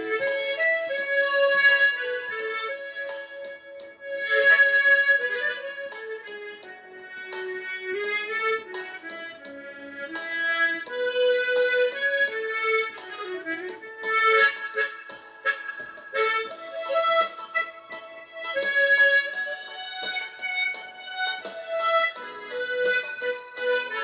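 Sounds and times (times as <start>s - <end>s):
harmonica playing chords: 0.0s - 24.0s.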